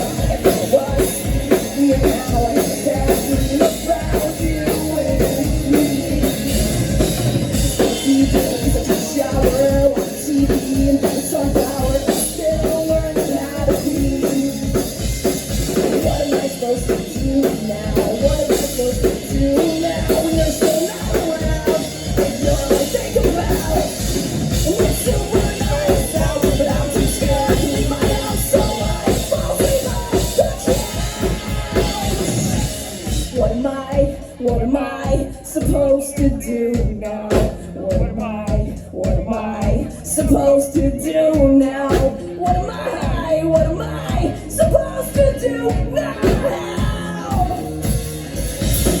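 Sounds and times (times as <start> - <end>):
drum kit beat: 0.0 - 49.0
live rock band playing: 0.0 - 49.0.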